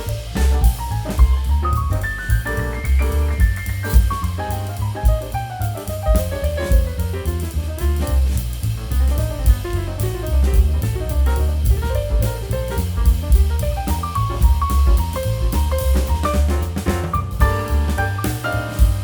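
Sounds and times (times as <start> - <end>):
upbeat jazzy tune with drums: 0.0 - 19.0.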